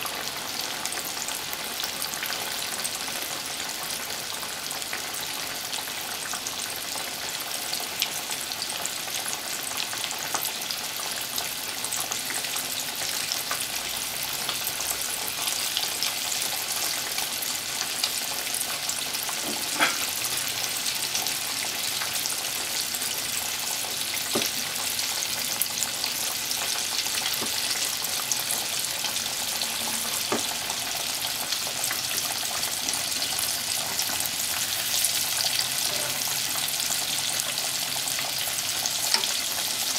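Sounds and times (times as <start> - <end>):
cutlet deep-frying in oil: 0.0 - 39.9.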